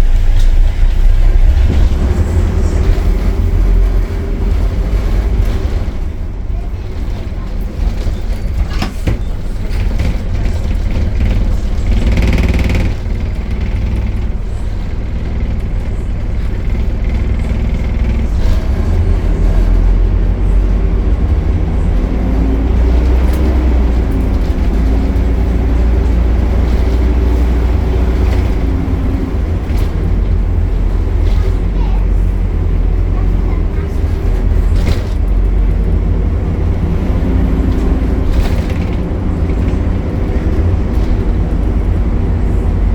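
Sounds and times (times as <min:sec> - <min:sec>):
bus engine low rumble: 0:00.0 - 0:42.9.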